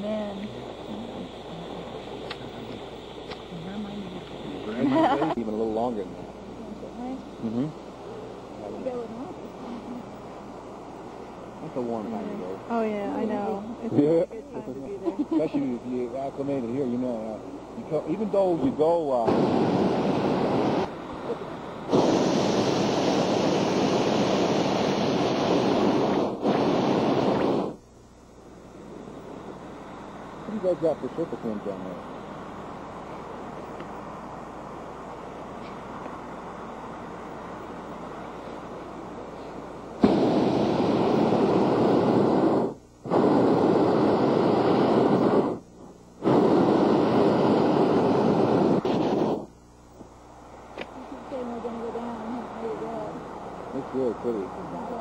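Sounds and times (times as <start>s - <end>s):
propane burner roaring: 0.0s - 55.0s.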